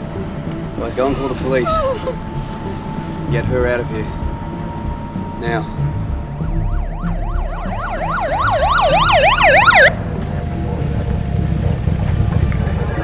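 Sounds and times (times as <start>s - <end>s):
police siren yelping: 0.0s - 12.0s
low rumble: 0.0s - 13.0s.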